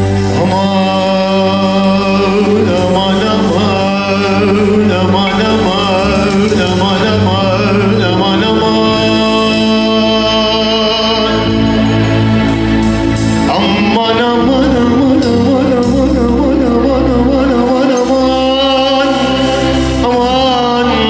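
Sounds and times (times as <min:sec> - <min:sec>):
man singing into a microphone: 0:00.0 - 0:12.1, 0:13.3 - 0:21.0
electronic keyboard chords and bass: 0:00.0 - 0:21.0.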